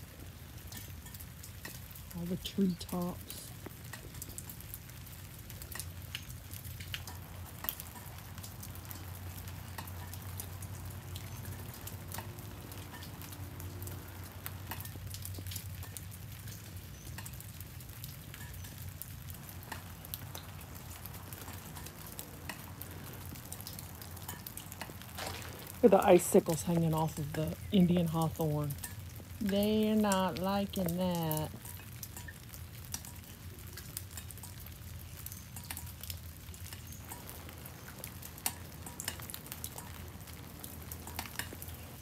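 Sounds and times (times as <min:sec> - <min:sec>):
drizzle pattering and dripping: 0:00.0 - 0:42.0
low steady hum: 0:00.0 - 0:42.0.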